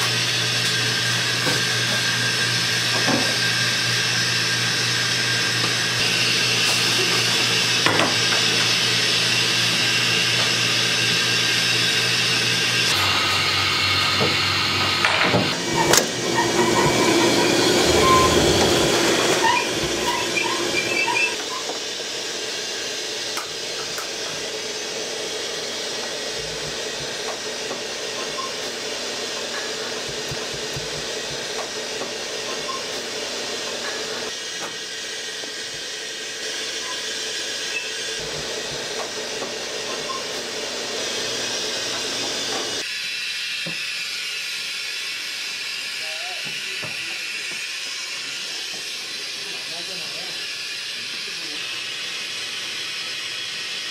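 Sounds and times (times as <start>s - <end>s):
steam hissing from a steamer: 0.0s - 53.9s.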